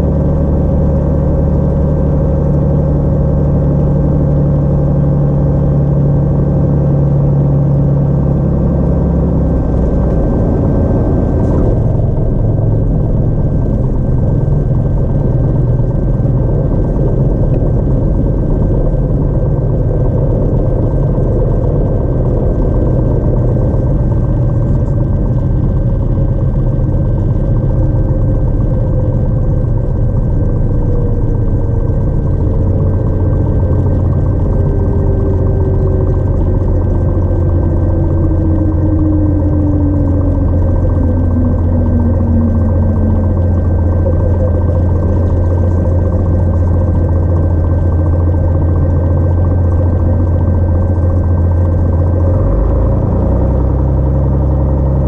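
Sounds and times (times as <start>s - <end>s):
airplane engine droning: 0.0s - 55.0s
high-pitched whine: 0.0s - 55.0s.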